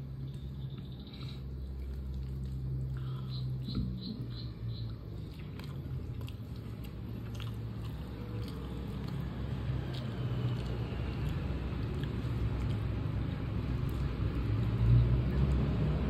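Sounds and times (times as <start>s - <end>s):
chewing with wet clicks: 0.0s - 16.0s.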